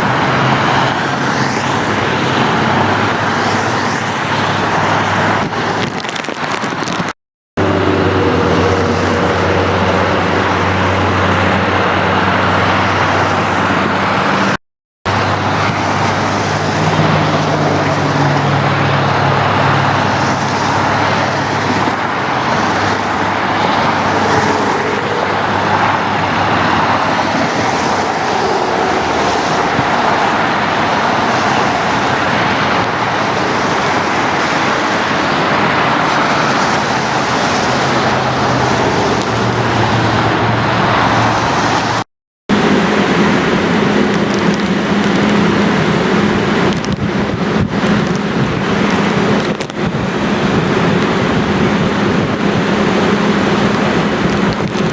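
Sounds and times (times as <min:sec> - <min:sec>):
road traffic rushing: 0:00.0 - 0:54.9.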